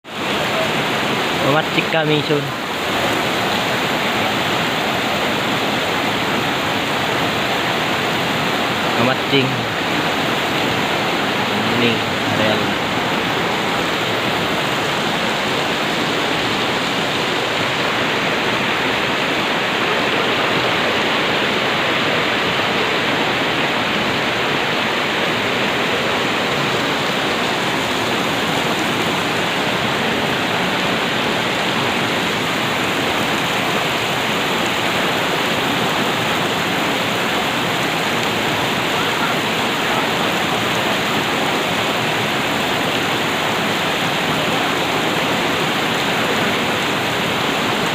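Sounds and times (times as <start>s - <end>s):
fast-flowing river water: 0.0s - 47.9s.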